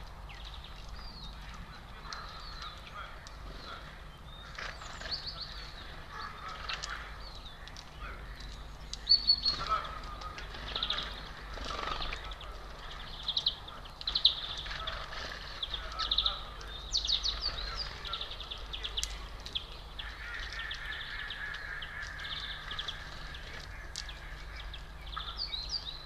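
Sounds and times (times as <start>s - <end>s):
small songbirds chirping: 0.0s - 26.0s.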